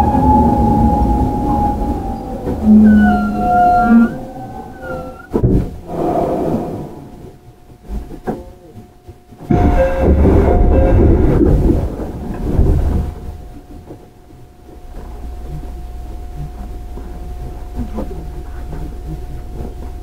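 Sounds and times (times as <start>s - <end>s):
loud noise with steady tones: 0.0s - 20.0s
low train rumble: 0.0s - 20.0s.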